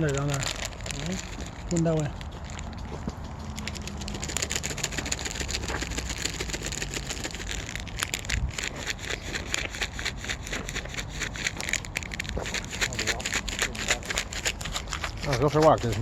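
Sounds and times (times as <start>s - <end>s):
dry leaves and twigs crunching: 0.0s - 15.6s.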